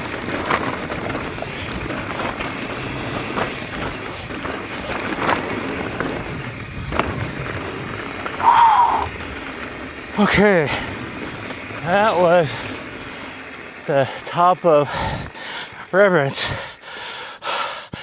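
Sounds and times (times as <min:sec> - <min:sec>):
bike tyres rattling over rough ground: 0:00.0 - 0:17.3.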